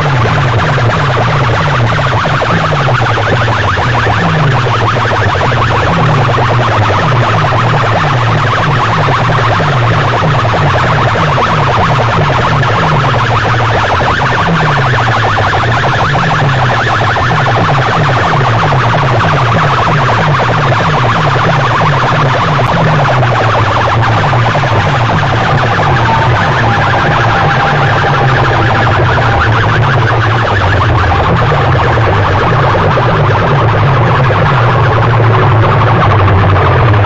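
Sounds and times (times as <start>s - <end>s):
distorted music over loudspeakers: 0.0s - 37.0s
repeating bass line: 0.0s - 37.0s.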